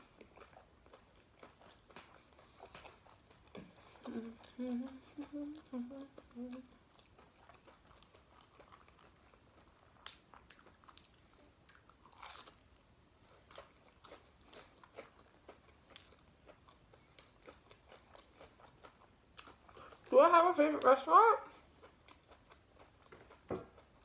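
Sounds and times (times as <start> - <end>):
chewing and crunching food: 0.0 - 24.0.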